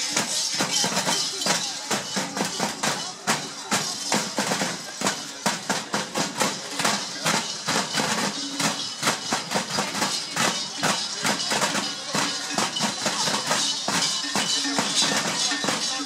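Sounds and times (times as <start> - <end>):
large cowbells clanging: 0.0 - 16.0.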